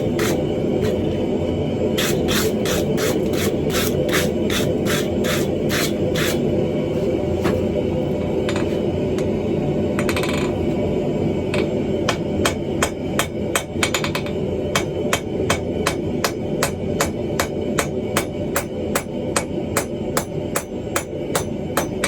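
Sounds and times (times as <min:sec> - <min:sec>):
constant background roar: 0:00.0 - 0:22.0.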